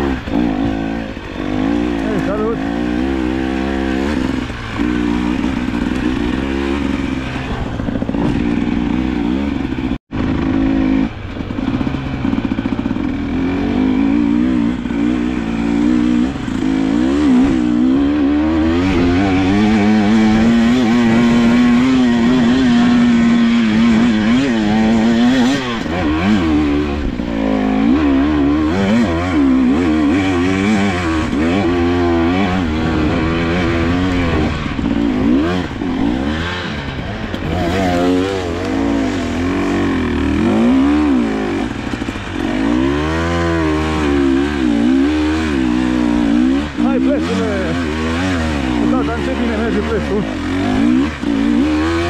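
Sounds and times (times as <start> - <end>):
two-stroke motorcycle engine revving: 0.0 - 52.0.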